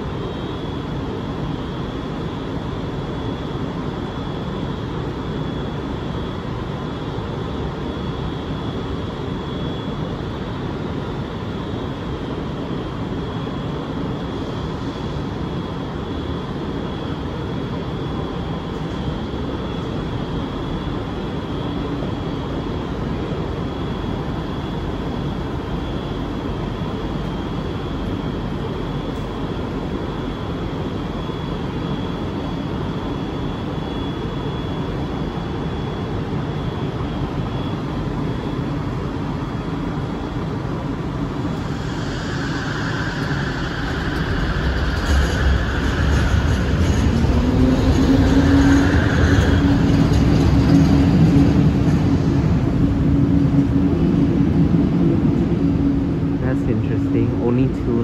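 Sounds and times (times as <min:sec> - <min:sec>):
high-pitched whine: 0:00.0 - 0:58.0
train hum: 0:00.0 - 0:58.0.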